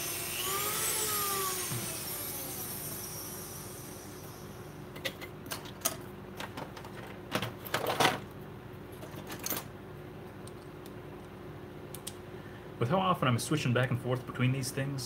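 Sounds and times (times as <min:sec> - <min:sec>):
low steady hum: 0:01.1 - 0:15.0.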